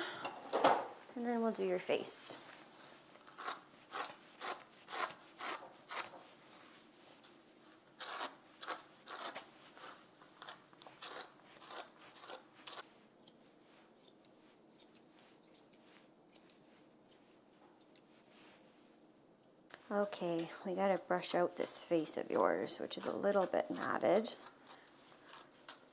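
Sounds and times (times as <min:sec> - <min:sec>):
brush stroking through hair: 0:01.9 - 0:25.9.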